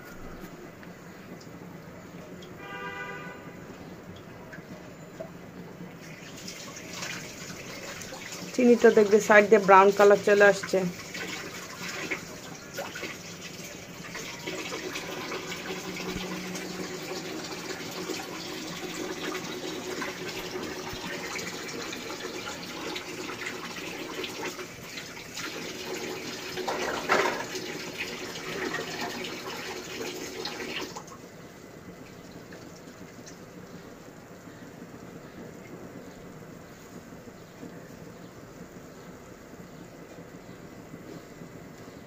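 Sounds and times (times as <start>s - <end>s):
gas stove burner hissing: 5.8s - 32.2s, 32.8s - 42.0s.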